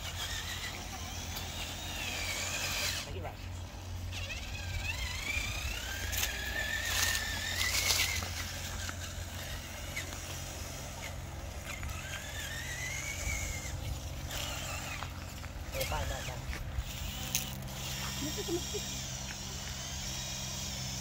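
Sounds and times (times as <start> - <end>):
toy truck electric motor whining: 0.0 - 21.0.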